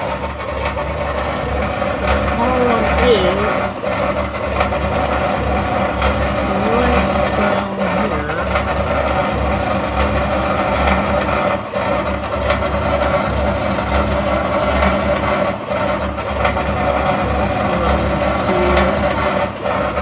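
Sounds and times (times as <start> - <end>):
washing machine grinding: 0.0 - 20.0.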